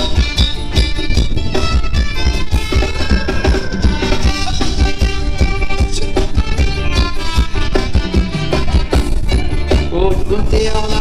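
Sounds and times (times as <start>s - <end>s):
live band dance music: 0.0s - 11.0s
steady drum beat: 0.0s - 11.0s.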